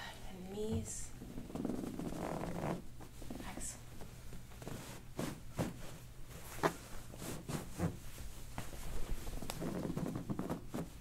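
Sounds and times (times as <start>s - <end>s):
fabric rustling: 1.4s - 3.4s, 4.0s - 11.0s.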